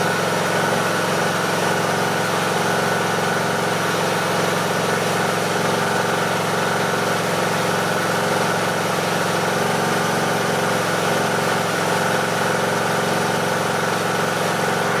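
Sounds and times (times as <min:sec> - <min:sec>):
riding mower engine idling: 0:00.0 - 0:15.0.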